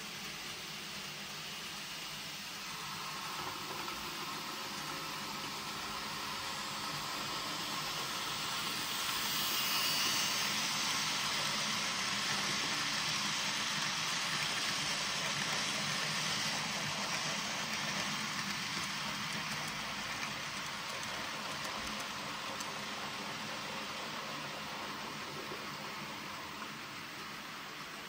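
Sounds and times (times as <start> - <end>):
model train rolling and hissing: 0.0 - 28.0.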